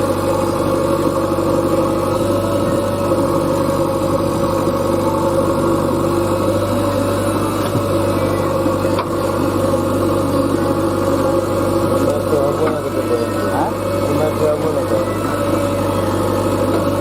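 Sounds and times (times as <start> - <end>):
diesel engine running at low revs: 0.0 - 17.0.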